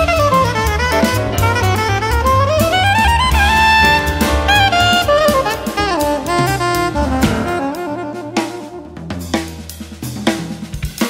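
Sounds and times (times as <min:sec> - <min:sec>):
saxophone melody: 0:00.0 - 0:09.6
bass: 0:00.0 - 0:11.0
drums: 0:00.0 - 0:11.0.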